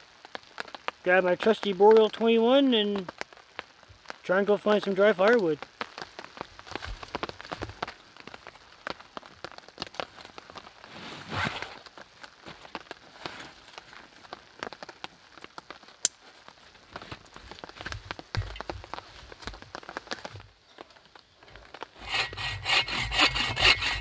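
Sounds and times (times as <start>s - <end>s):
rain tapping on a tarp: 0.0s - 22.0s.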